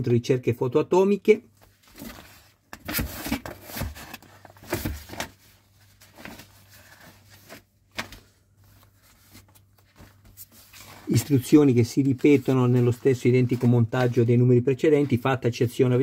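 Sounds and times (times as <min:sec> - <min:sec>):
paper pages rustling: 0:01.5 - 0:16.0.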